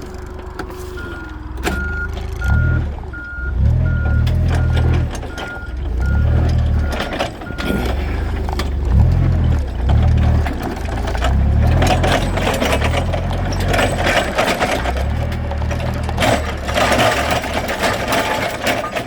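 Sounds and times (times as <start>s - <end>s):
forklift engine rumbling: 0.0s - 19.0s
forklift reversing alarm beeping: 0.0s - 19.0s.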